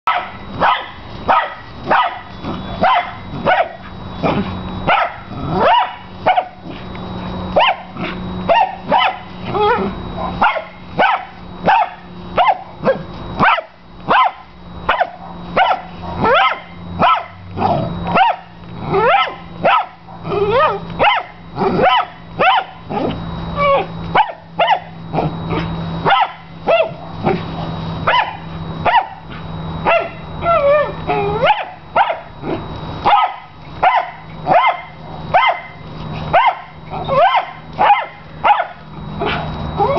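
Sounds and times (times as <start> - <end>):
dog barking high-pitched: 0.1 - 3.9, 4.9 - 6.6, 7.6 - 27.4, 28.1 - 29.2, 29.8 - 32.3, 33.0 - 39.9.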